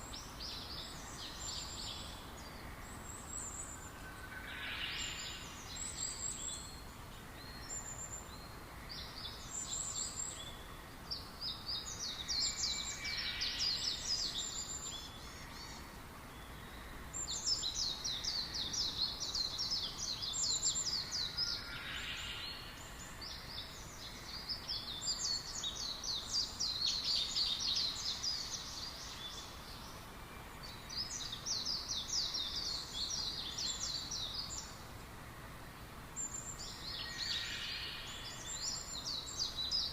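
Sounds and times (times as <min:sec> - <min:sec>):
small birds chirping: 0:00.0 - 0:39.9
steady low background hiss: 0:00.0 - 0:39.9.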